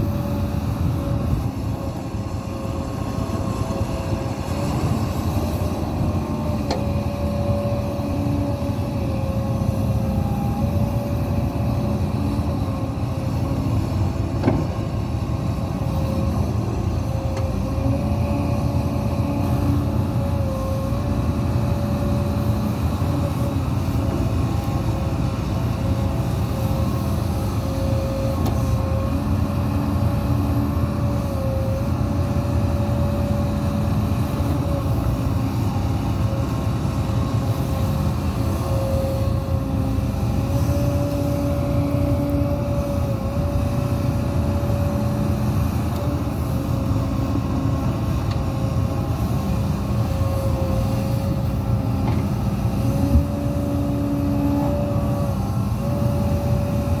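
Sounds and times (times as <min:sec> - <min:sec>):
excavator engine rumbling: 0:00.0 - 0:57.0.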